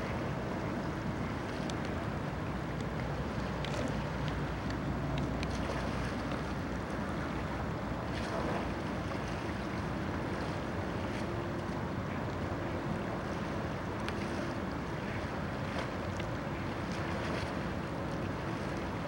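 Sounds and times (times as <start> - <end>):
waves on open water: 0.0 - 19.0.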